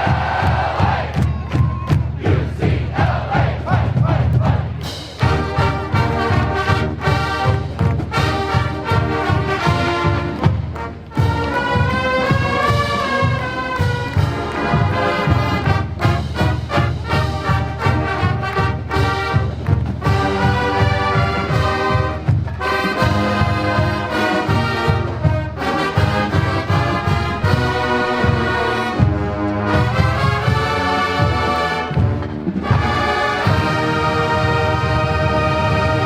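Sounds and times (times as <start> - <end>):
marching drum beat: 0.0 - 36.0
brass melody: 2.5 - 36.0.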